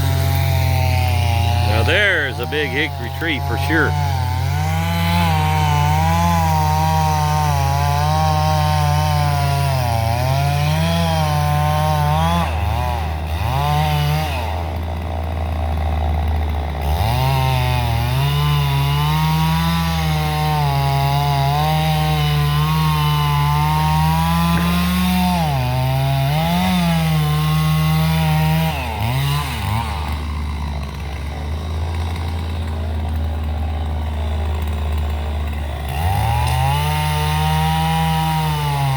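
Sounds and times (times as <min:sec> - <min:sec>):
engine running hard: 0:00.0 - 0:38.9.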